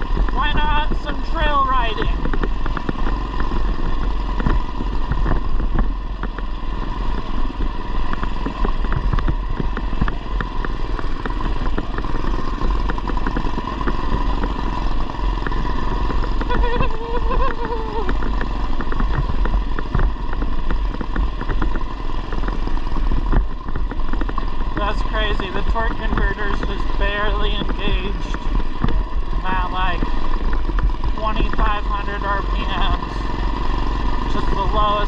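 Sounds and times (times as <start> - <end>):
mini bike engine running: 0.0 - 35.0
clicks and rattles: 1.9 - 33.4.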